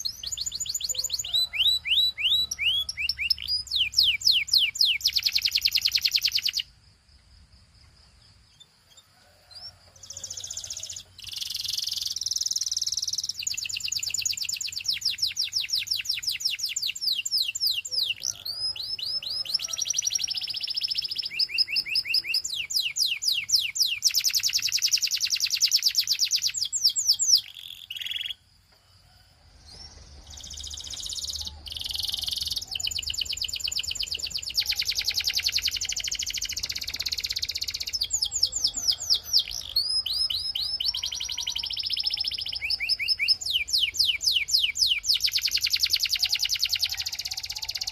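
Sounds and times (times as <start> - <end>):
canary singing: 0.0 - 6.7, 8.6 - 28.5, 29.7 - 47.9.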